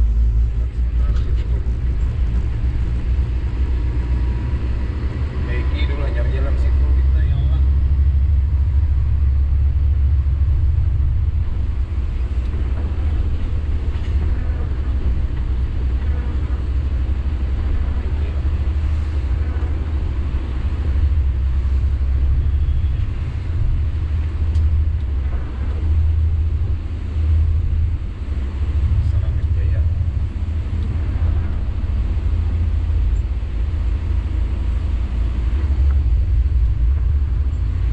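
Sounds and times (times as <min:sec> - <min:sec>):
diesel truck engine drone: 0:00.0 - 0:37.9
road rumble: 0:00.0 - 0:37.9.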